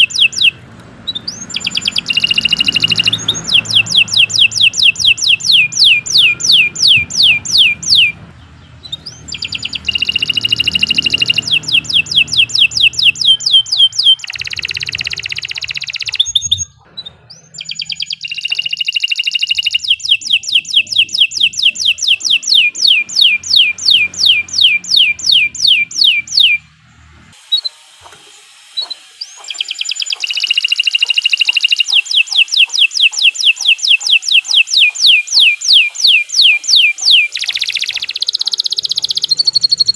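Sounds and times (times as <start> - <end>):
canary singing: 0.0 - 27.8, 28.7 - 39.9.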